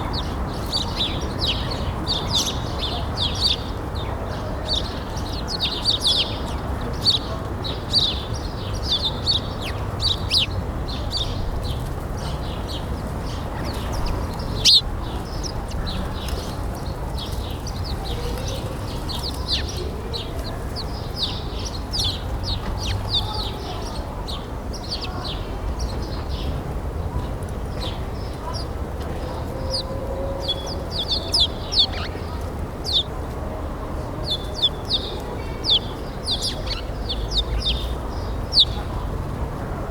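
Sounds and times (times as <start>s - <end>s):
small birds chirping: 0.0s - 39.6s
low background rumble: 0.0s - 39.9s.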